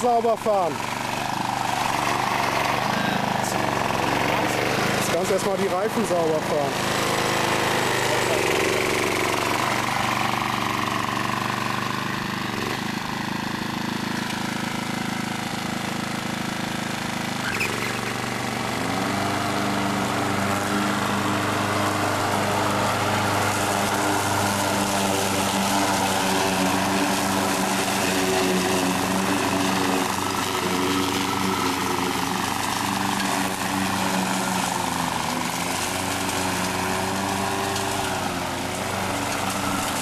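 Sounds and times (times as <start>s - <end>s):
ride-on mower engine running: 0.0s - 40.0s.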